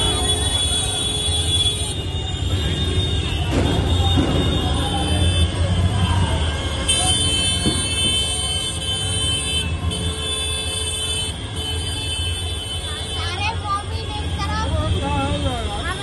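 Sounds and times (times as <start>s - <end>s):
high steady horn tone: 0.0s - 14.0s
street crowd: 0.0s - 16.0s
vehicle engines rumbling: 0.0s - 16.0s.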